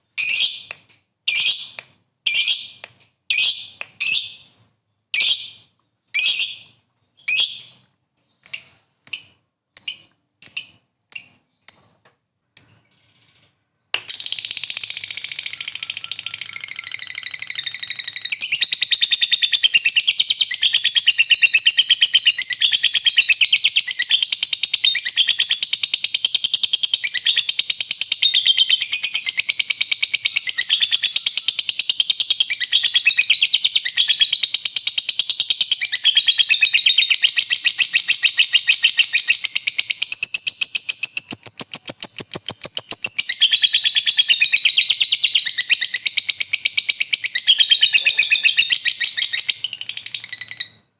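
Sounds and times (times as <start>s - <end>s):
lovebird chirps and trill: 0.2s - 0.7s, 1.3s - 12.0s, 12.6s - 50.9s.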